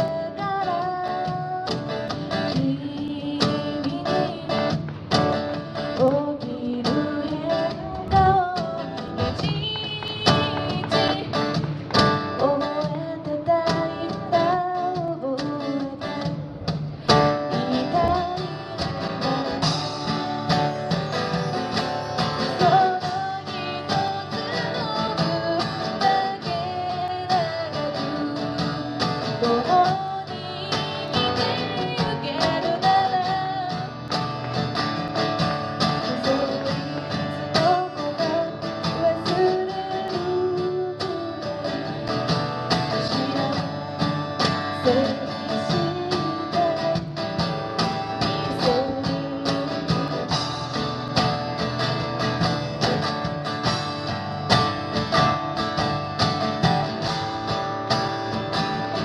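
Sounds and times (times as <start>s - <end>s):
acoustic guitar music: 0.0s - 59.0s.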